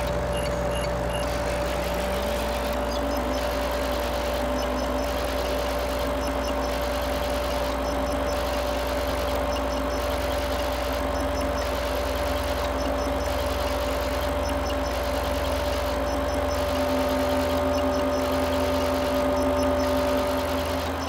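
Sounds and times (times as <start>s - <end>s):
electronic noise music: 0.0s - 21.0s.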